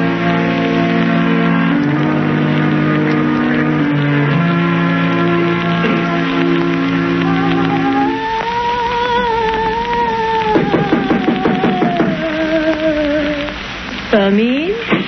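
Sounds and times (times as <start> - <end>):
radio drama musical bridge chords: 0.0 - 15.0.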